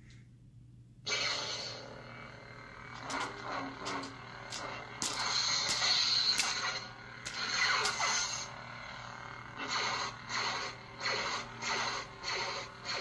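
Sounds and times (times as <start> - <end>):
lightsaber hum: 1.1 - 13.0.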